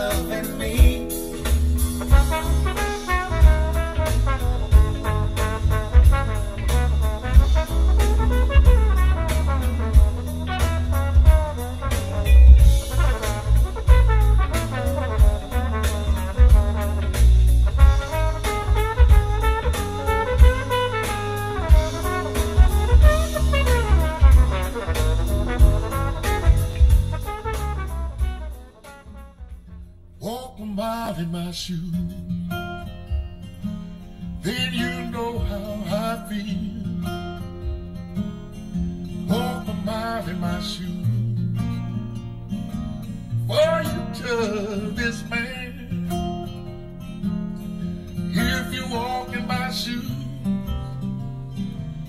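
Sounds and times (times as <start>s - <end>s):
brass-led instrumental music: 0.0s - 30.3s, 32.6s - 50.8s.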